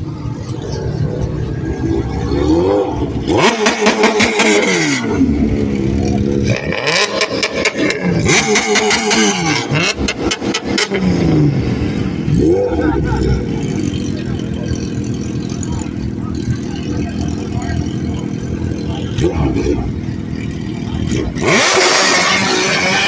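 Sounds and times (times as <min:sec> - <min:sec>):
car engine revving: 0:00.0 - 0:23.0
exhaust popping: 0:00.0 - 0:23.0.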